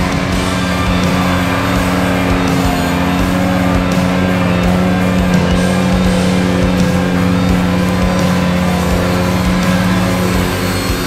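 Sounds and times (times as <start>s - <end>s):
rock music: 0.0s - 11.0s
tractor engine running: 0.0s - 11.0s.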